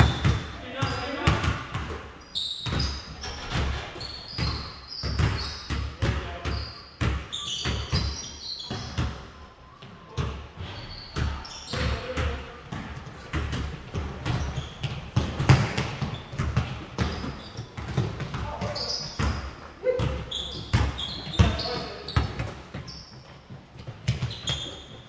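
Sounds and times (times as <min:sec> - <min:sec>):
basketballs bouncing on hardwood: 0:00.0 - 0:09.2, 0:10.2 - 0:25.0
sneakers squeaking: 0:00.0 - 0:25.0.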